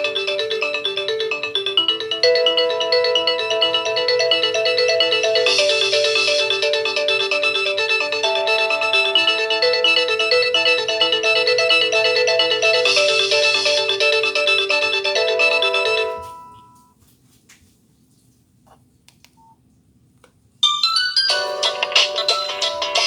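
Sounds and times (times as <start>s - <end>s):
polyphonic ringtone melody: 0.0s - 16.9s, 20.6s - 23.0s.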